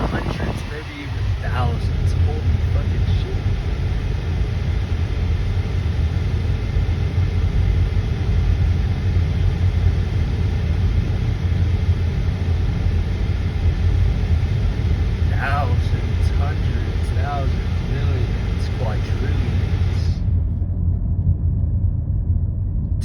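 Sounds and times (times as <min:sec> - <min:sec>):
car interior rumble: 0:00.0 - 0:23.0.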